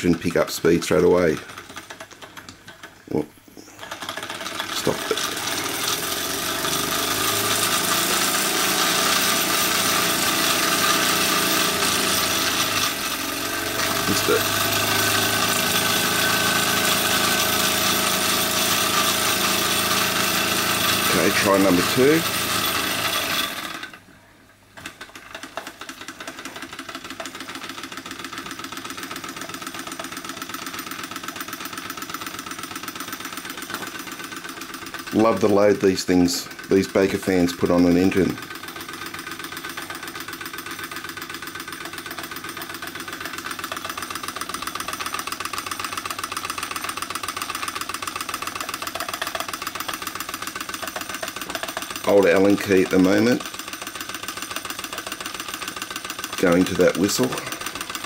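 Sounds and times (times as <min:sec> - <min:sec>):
model steam engine running: 0:00.0 - 0:02.8, 0:03.8 - 0:24.0, 0:24.8 - 0:58.0.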